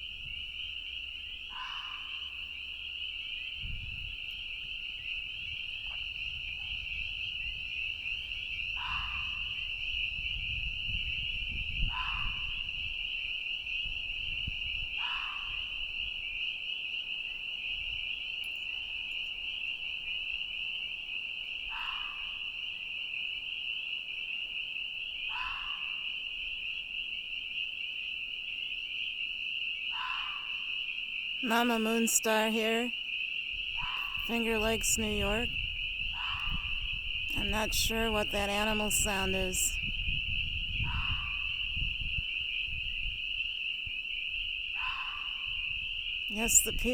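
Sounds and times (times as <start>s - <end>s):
frog chorus: 0.0s - 46.9s.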